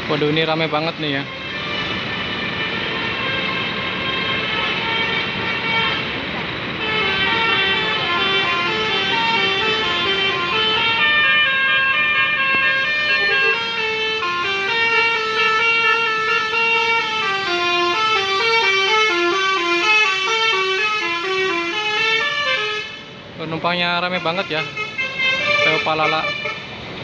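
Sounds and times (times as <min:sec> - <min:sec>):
bus musical horn playing a tune: 0:01.1 - 0:06.2, 0:06.8 - 0:23.2, 0:24.0 - 0:26.7.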